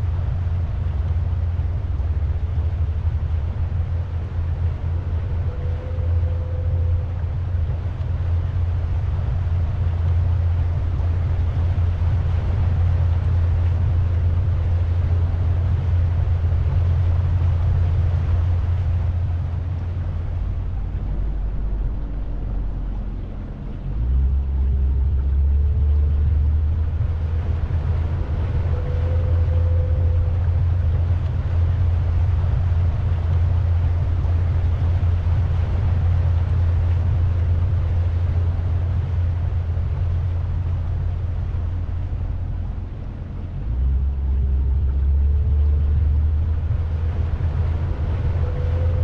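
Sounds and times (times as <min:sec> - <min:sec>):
boat motor humming: 0:00.0 - 0:49.0.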